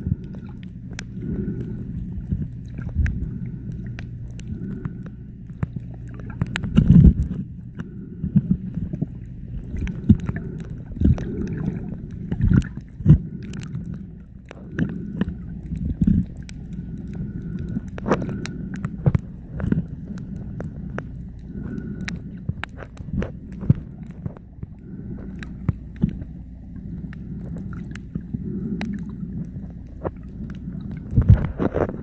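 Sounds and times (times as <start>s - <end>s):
muffled underwater rumble: 0.0s - 32.0s
underwater clicks and knocks: 0.2s - 32.0s.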